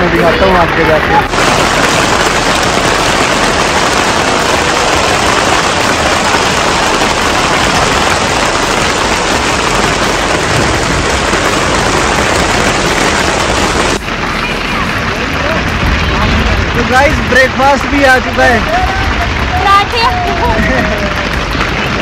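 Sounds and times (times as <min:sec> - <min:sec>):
hailstones pelting down: 0:00.0 - 0:22.0.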